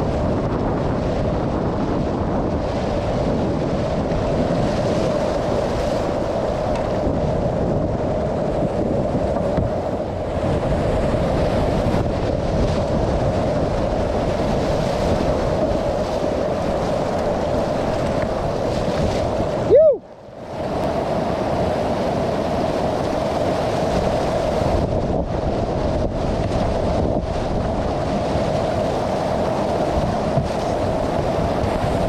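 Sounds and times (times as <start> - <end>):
whitewater rapids rushing: 2.6 - 32.0.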